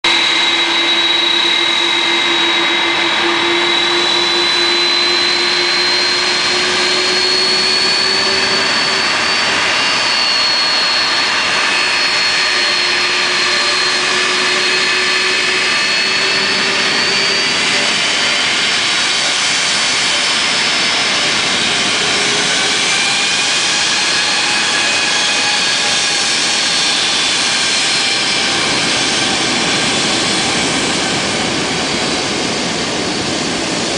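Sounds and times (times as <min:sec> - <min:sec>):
jet engines at taxi power: 0:00.0 - 0:33.9.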